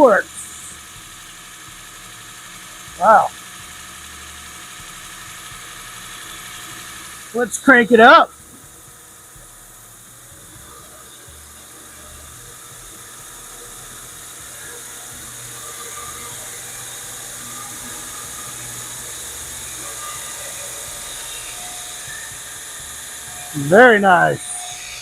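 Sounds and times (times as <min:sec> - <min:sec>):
sanding belt hissing: 0:00.0 - 0:25.0.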